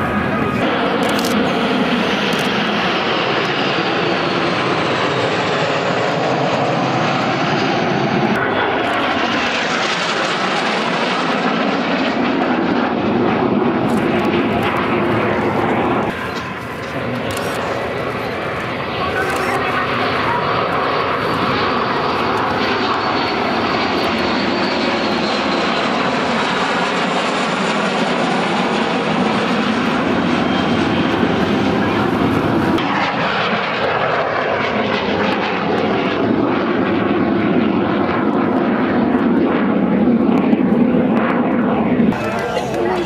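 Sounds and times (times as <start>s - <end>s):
jet aircraft flying past: 0.0s - 43.0s.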